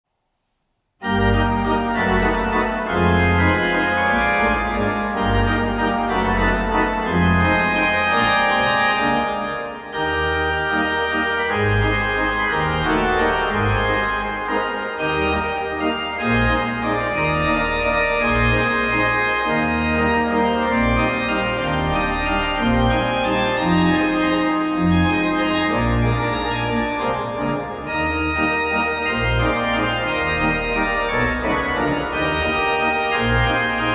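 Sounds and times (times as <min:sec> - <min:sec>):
pipe organ playing a waltz: 0:01.0 - 0:33.9.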